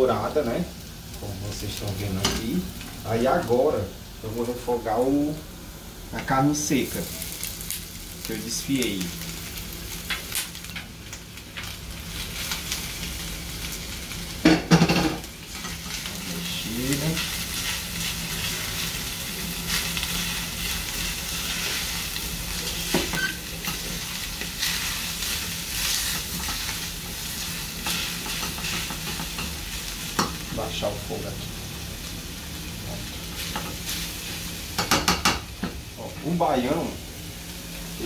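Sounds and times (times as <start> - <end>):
meat and onions sizzling in pan: 0.0 - 38.0.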